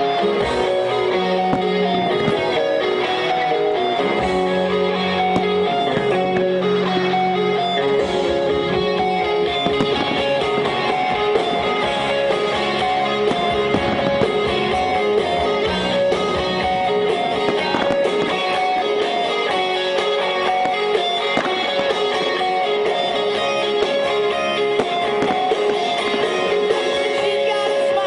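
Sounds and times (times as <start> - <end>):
guitar music with strummed rhythm: 0.0 - 28.0.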